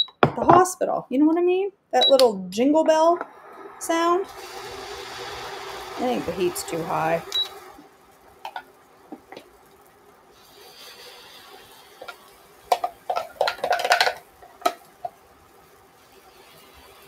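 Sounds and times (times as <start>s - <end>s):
faint hiss: 3.2s - 17.0s.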